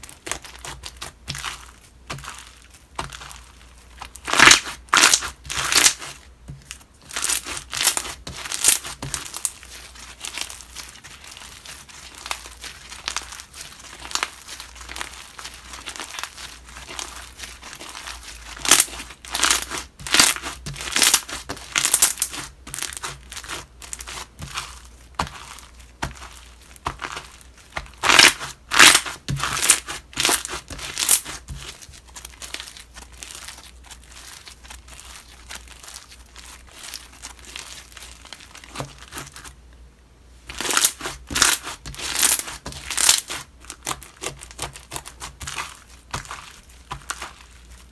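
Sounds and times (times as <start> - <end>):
slime squished by hand: 0.0 - 39.5, 40.5 - 47.9.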